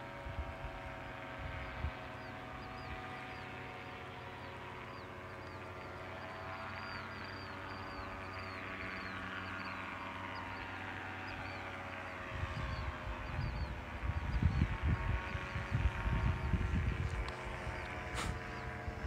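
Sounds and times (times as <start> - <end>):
paraglider engines droning overhead: 0.0 - 19.0.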